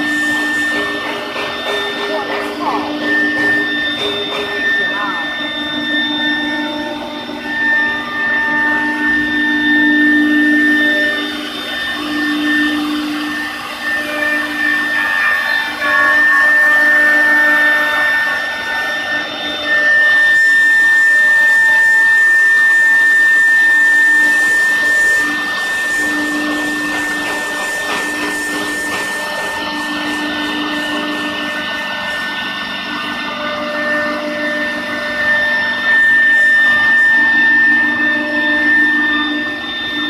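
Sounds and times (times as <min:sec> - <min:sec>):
low motor hum: 0:00.0 - 0:40.0
spindle motors whining: 0:00.0 - 0:40.0.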